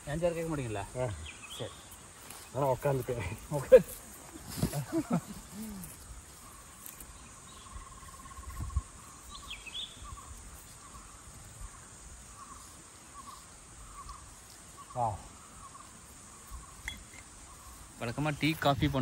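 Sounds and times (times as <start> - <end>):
insect trilling: 0.0 - 19.0.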